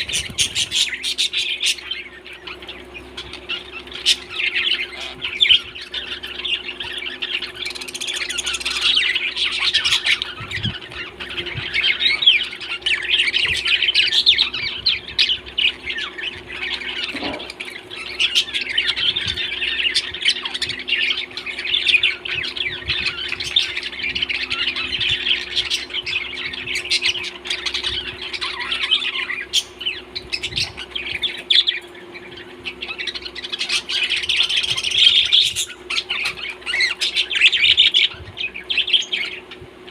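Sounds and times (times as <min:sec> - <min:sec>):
parrots chattering and squawking: 0:00.0 - 0:39.9.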